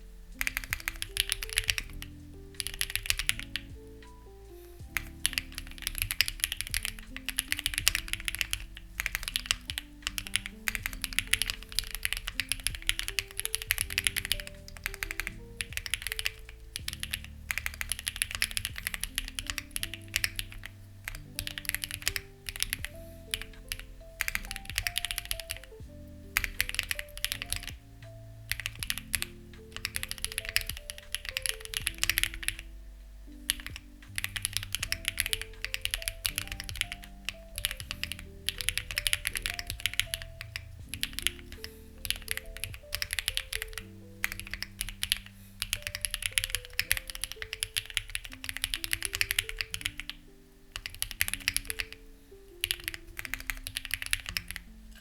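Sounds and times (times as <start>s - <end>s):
mechanical keyboard typing: 0.0s - 27.8s, 28.4s - 32.7s, 33.4s - 52.0s, 52.6s - 55.0s
soft background music: 0.0s - 55.0s.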